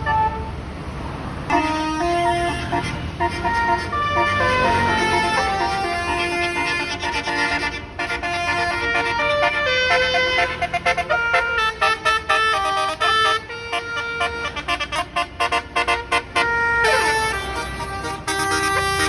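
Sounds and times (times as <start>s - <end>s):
musical bus horn melody: 0.0s - 0.6s, 1.5s - 19.0s.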